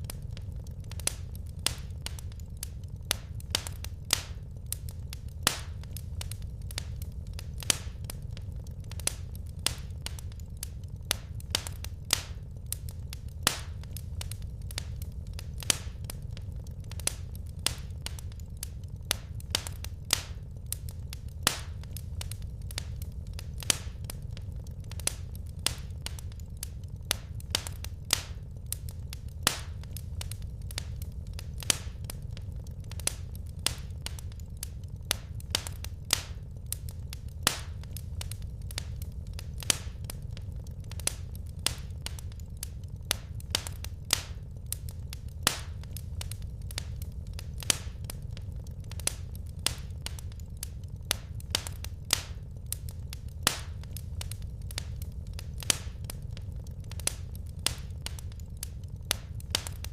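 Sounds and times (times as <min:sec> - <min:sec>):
low rumble: 0:00.0 - 0:59.9
wood fire crackling: 0:00.0 - 0:59.9.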